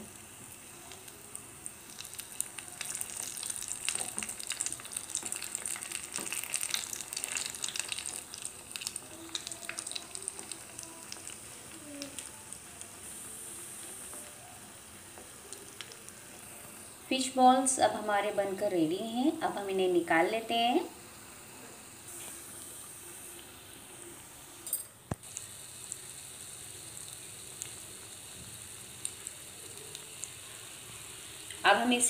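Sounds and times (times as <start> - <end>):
food deep-frying in hot oil: 0.0 - 32.0.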